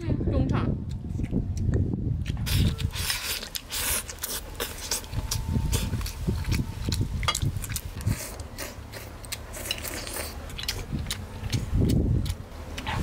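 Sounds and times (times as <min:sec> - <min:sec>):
person chewing: 0:00.8 - 0:13.0.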